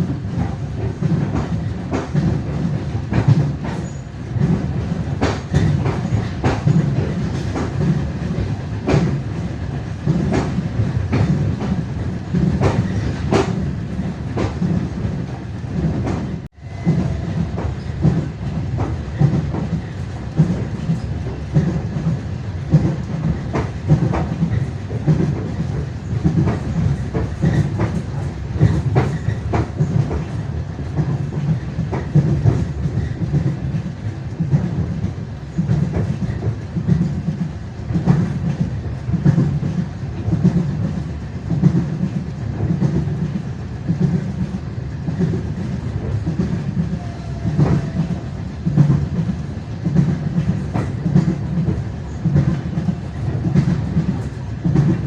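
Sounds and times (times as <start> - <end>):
train rolling rumble: 0.0 - 55.0
train wheels clickety-clack: 0.0 - 55.0.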